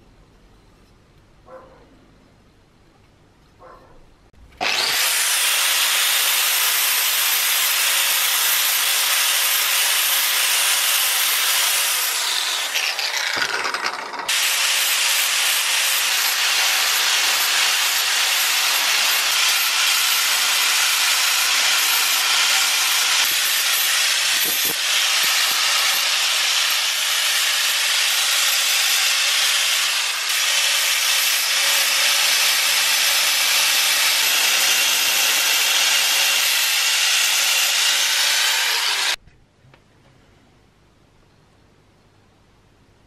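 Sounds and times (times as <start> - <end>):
angle grinder grinding metal: 4.6 - 39.2.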